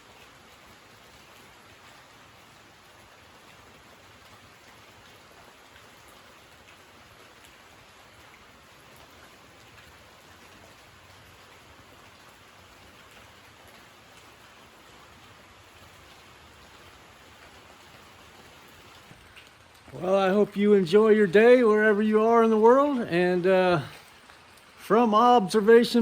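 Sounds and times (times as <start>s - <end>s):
rain on a tin roof: 0.0s - 26.0s.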